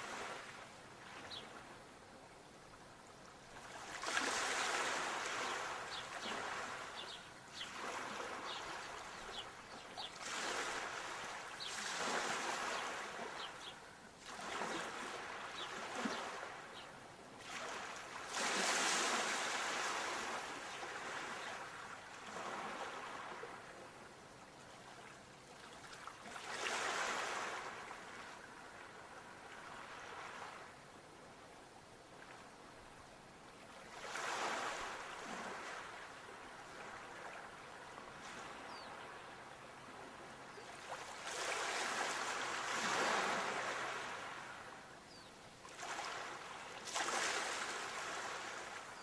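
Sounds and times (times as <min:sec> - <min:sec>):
sea waves breaking on shore: 0:00.0 - 0:01.8, 0:03.5 - 0:24.1, 0:24.8 - 0:30.9, 0:33.6 - 0:49.0.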